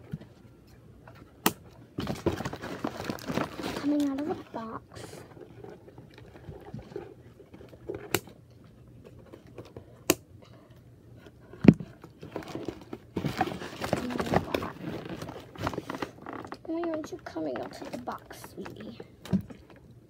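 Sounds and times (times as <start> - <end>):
cardboard and plastic rustling: 1.0 - 10.0, 11.2 - 19.8.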